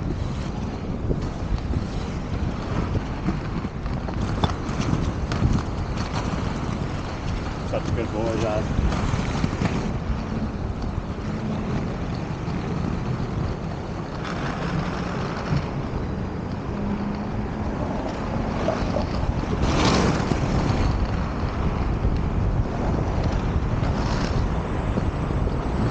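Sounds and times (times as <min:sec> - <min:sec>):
skate wheels rolling on pavement: 0:00.0 - 0:25.9
wind buffeting microphone: 0:00.0 - 0:25.9.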